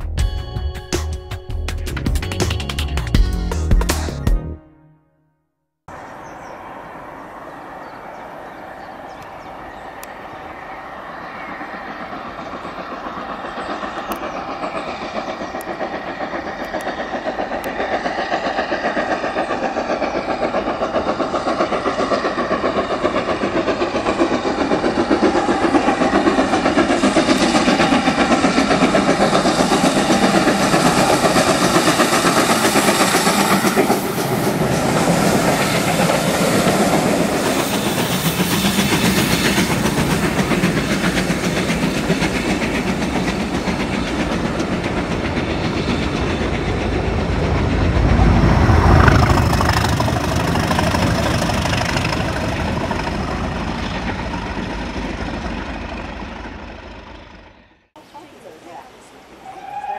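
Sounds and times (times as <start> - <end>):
steam locomotive exhaust beats: 5.9 - 59.9
train wheels clicking over rail joints: 9.1 - 57.6.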